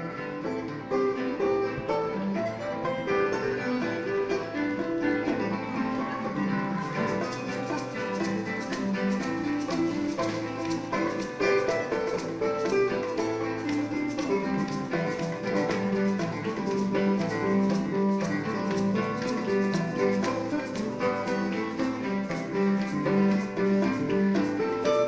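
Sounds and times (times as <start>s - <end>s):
guitar: 0.0s - 25.0s
live band playing: 0.0s - 25.0s
walking bass line: 0.0s - 25.0s.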